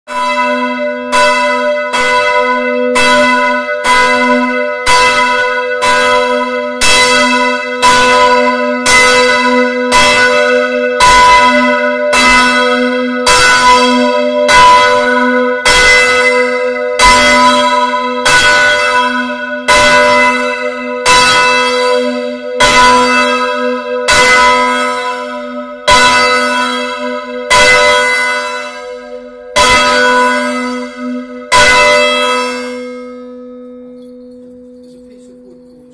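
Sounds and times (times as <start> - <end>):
church bell ringing: 0.1 - 35.9.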